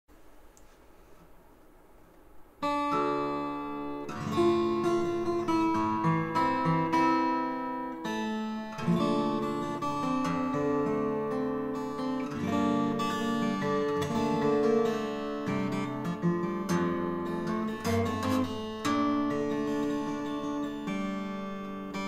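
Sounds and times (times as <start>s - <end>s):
fingerstyle acoustic guitar: 2.6s - 22.0s.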